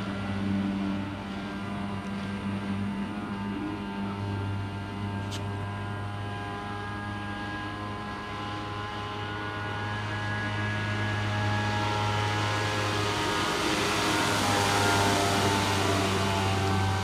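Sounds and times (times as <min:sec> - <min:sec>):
jet ski engine drone: 0:00.0 - 0:17.0.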